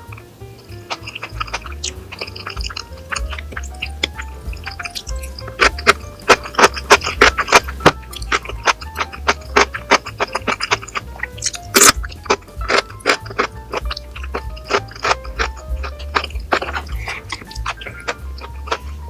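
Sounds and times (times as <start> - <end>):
background music with quick beat: 0.0 - 19.0.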